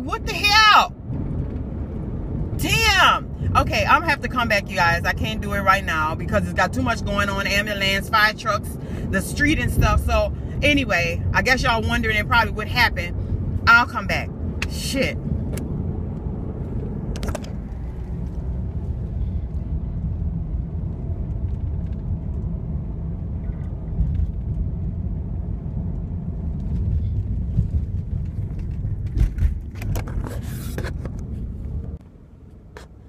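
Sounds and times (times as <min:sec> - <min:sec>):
car cabin rumble: 0:00.0 - 0:33.0.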